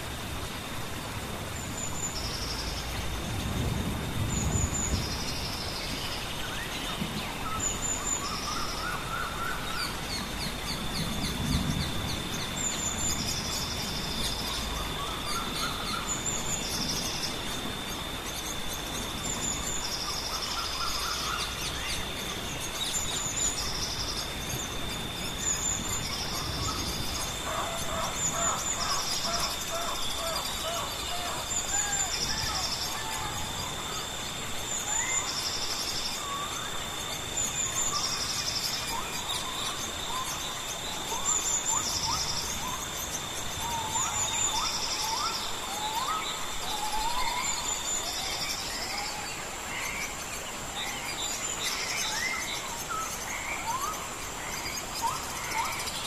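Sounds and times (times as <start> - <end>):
background hiss: 0.0 - 56.0
wild birds singing: 0.0 - 56.0.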